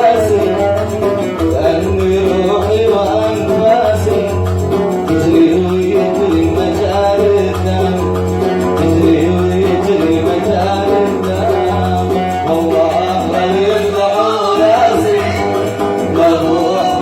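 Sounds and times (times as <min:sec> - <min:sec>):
plucked oud melody: 0:00.0 - 0:17.0.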